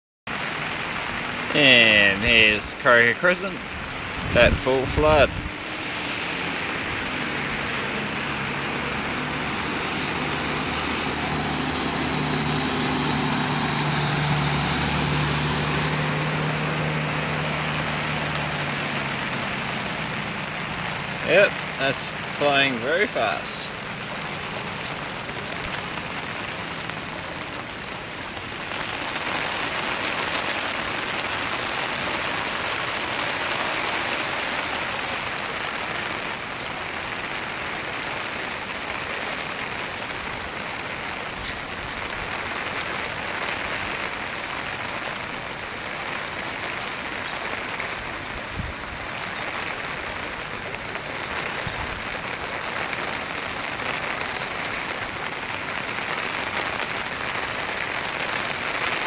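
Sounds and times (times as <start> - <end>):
floodwater rushing: 0.3 - 59.0
heavy rain pouring: 0.3 - 59.0.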